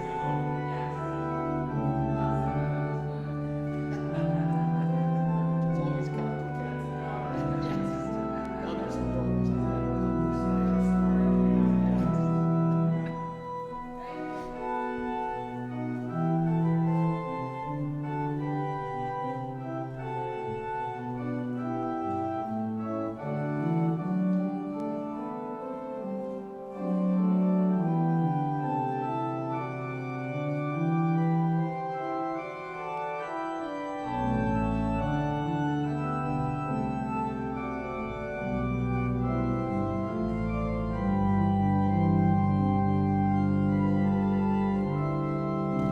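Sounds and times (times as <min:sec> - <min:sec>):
church organ playing chords: 0:00.0 - 0:45.9
deep organ pedal bass notes: 0:00.0 - 0:45.9.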